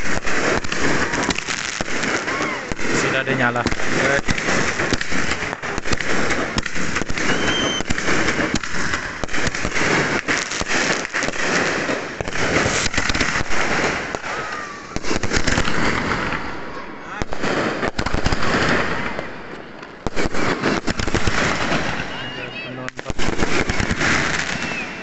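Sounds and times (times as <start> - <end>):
faint fireworks whistle: 0.0 - 16.5, 17.2 - 25.0
fireworks bangs and crackling: 0.0 - 25.0.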